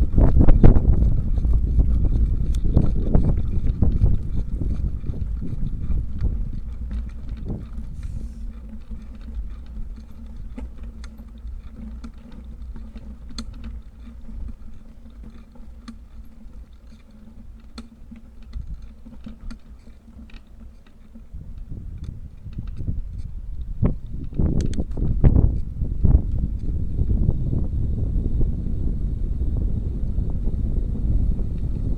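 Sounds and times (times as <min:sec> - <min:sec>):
light clicks and rattles: 0:00.0 - 0:26.8
bicycle riding rumble: 0:00.0 - 0:31.9.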